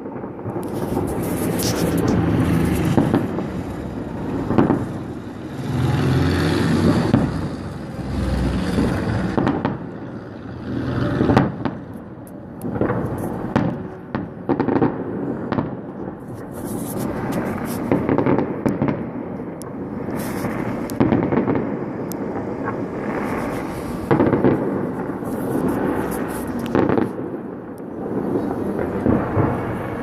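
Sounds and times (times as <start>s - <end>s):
fireworks booming bursts: 0.0s - 30.0s
rumble of explosions: 0.0s - 30.0s.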